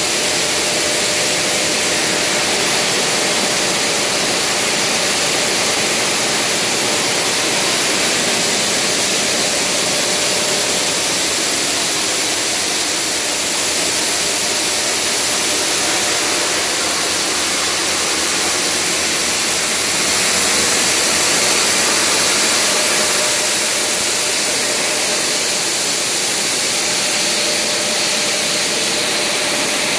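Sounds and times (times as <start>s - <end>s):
stone saw cutting under water spray: 0.0s - 29.9s.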